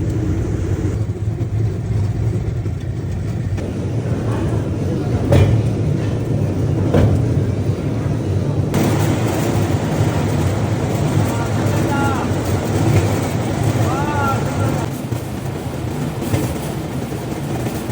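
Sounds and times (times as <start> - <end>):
rail bike rumbling on track: 0.0 - 17.9.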